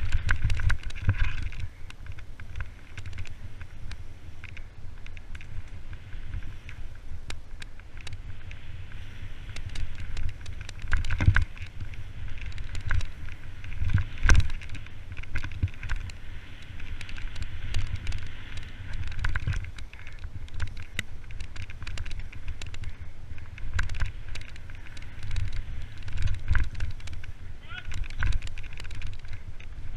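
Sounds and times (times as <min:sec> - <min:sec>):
bike clicks and rattles: 0:00.0 - 0:29.9
bike tyres on dirt: 0:00.0 - 0:29.9
wind rushing over microphone: 0:00.0 - 0:29.9.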